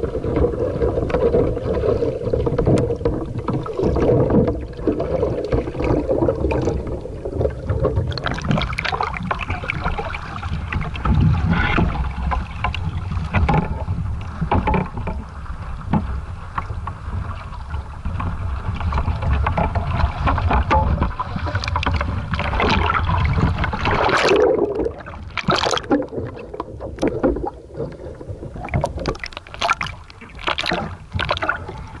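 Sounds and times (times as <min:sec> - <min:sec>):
water splashing against boat: 0:00.0 - 0:32.0
wind rumbling on microphone: 0:00.0 - 0:32.0.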